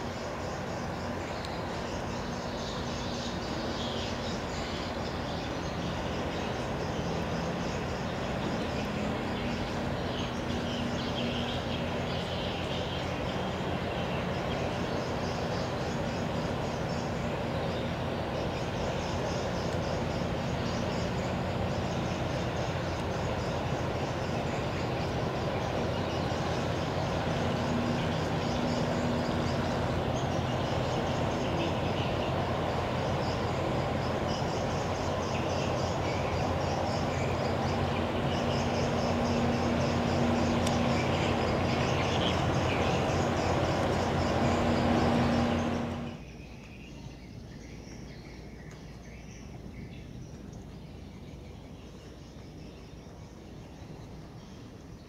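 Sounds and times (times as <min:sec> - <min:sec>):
ship engine drone: 0:00.0 - 0:46.3
water rushing along hull: 0:00.0 - 0:46.4.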